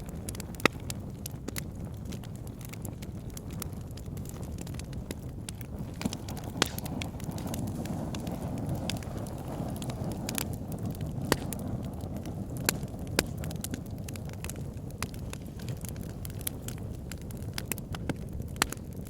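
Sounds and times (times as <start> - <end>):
fire crackles and pops: 0.0 - 19.0
low rush of flames: 0.0 - 19.0.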